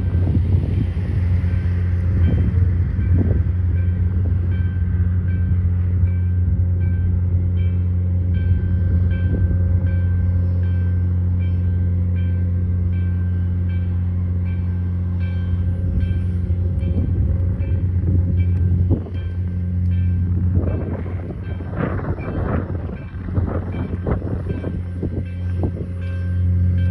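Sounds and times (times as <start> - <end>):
railcar rumbling on track: 0.0 - 26.9.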